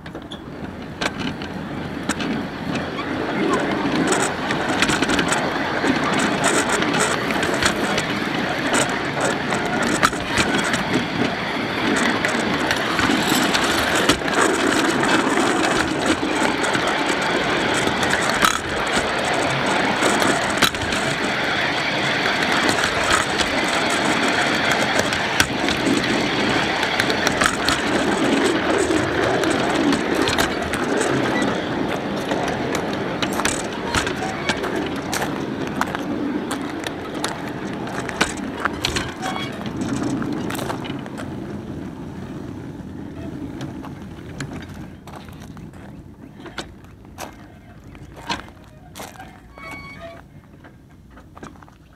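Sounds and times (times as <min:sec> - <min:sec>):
steel wheels rolling on track: 0:00.0 - 0:51.9
wheels clicking over rails: 0:00.0 - 0:51.9.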